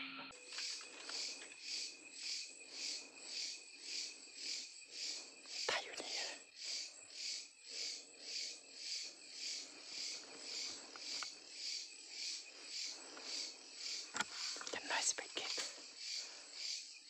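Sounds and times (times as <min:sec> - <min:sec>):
night insects chirping: 0:00.3 - 0:17.0.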